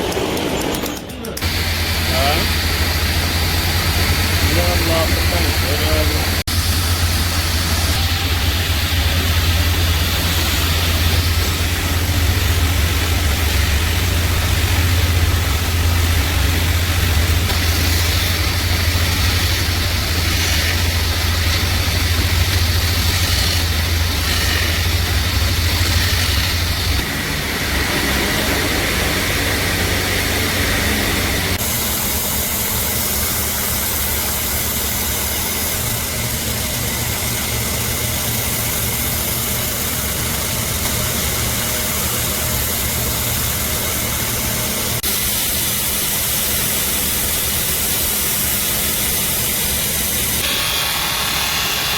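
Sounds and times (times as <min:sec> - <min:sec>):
motor humming with hiss: 0:00.0 - 0:51.9.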